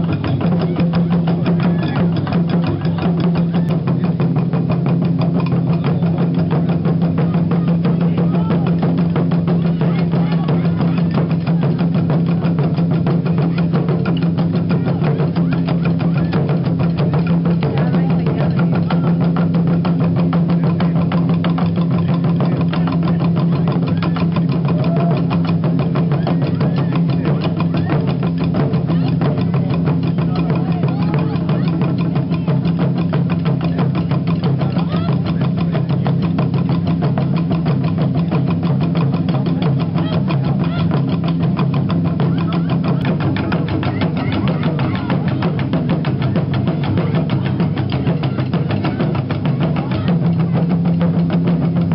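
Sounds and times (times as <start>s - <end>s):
taiko drums beating fast: 0.0s - 51.9s.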